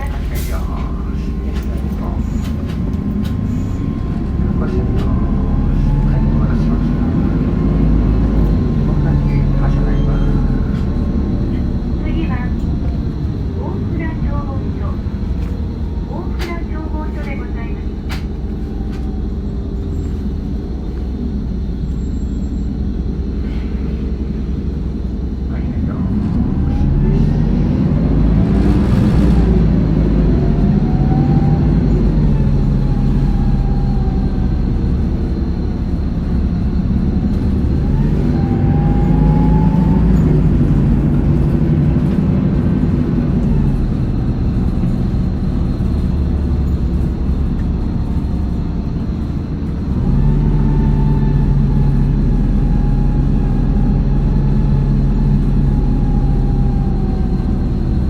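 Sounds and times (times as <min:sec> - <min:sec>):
bus diesel engine pulling away: 0:00.0 - 0:58.0.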